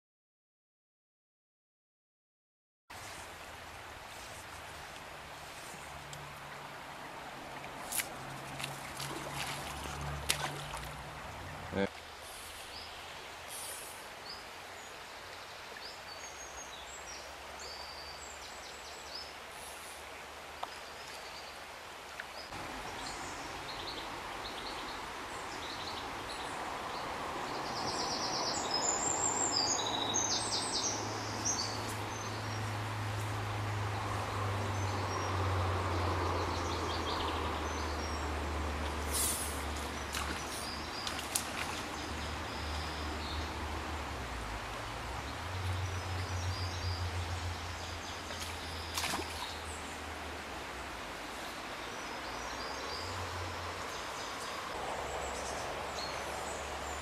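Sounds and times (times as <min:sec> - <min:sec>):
running water: 0:02.9 - 0:57.0.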